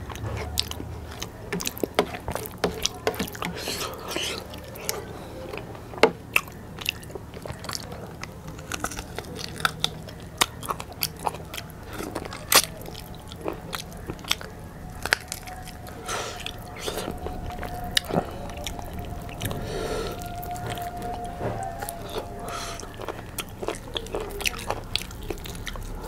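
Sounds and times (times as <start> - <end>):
person chewing with wet clicks: 0.0 - 26.0.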